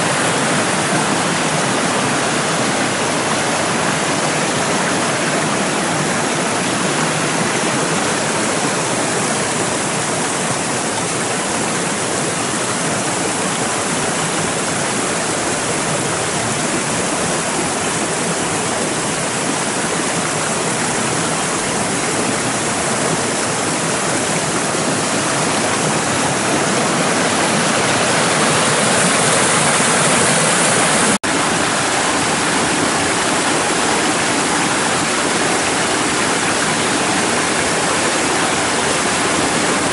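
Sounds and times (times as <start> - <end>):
water rushing over stones: 0.0 - 39.9.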